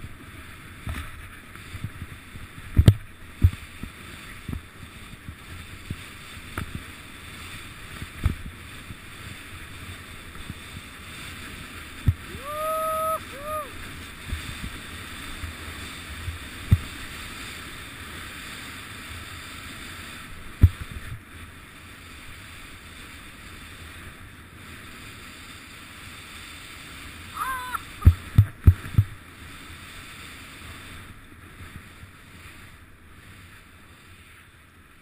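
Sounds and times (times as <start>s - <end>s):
wind on microphone: 0.0s - 34.5s
skis hissing through snow: 0.0s - 35.0s.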